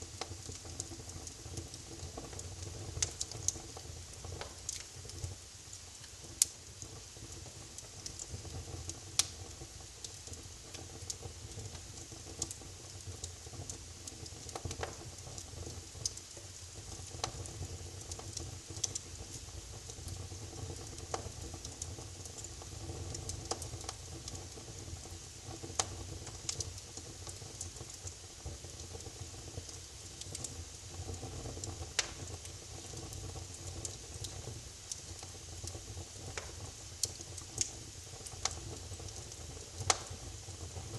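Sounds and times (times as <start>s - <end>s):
wood fire crackling: 0.0s - 40.9s
sharp pops and snaps: 0.1s - 22.1s, 23.0s - 40.9s.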